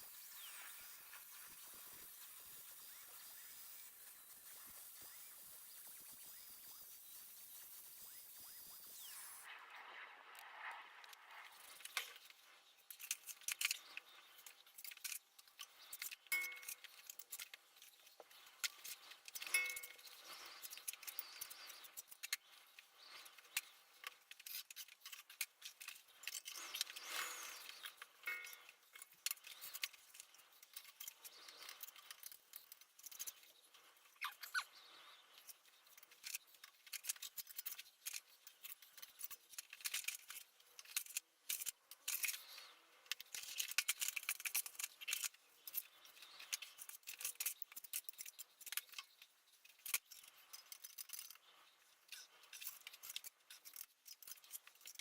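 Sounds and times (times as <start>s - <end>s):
hand tools clicking and scraping: 0.0s - 9.5s, 11.4s - 55.0s.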